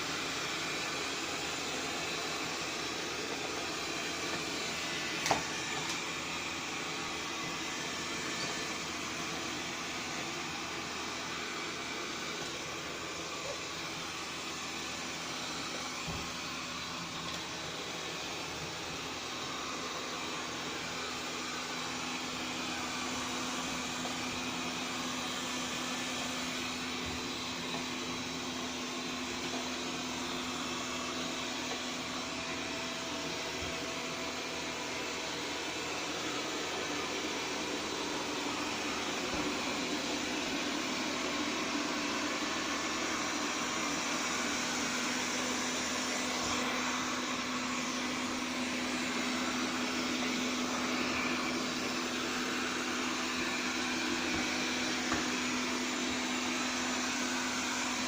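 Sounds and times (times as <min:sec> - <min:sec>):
robot vacuum motor hum: 0:00.0 - 0:58.0.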